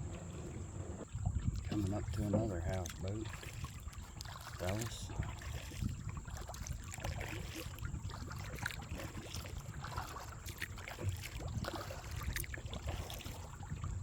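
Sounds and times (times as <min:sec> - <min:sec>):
paddle splashing in water: 0:00.0 - 0:14.0.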